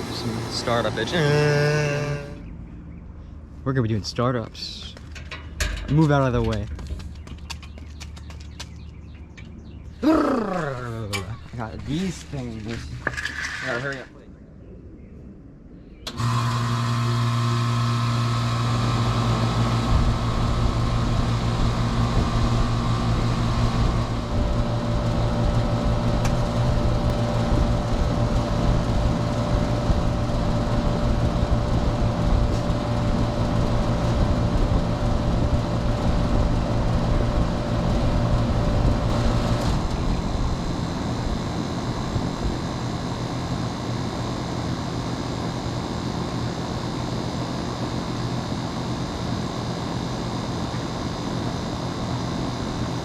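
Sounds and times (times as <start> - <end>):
condenser fan running: 0.0 - 2.5, 9.6 - 12.8, 16.1 - 53.0
air conditioner compressor hum: 0.0 - 13.1, 16.0 - 53.0.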